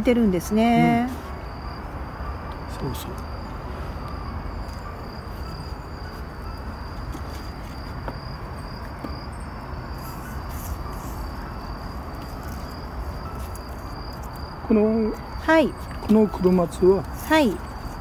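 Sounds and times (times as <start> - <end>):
high-pitched insect trill: 0.1 - 18.0.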